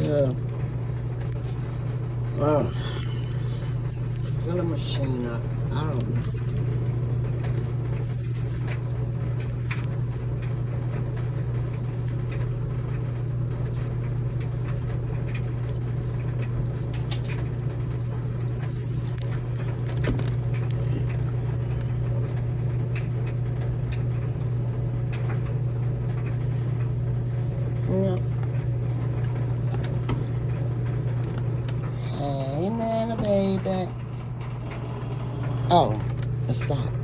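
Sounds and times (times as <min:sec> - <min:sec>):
washing machine low hum: 0:00.0 - 0:37.0
water running into washing machine: 0:00.0 - 0:37.0.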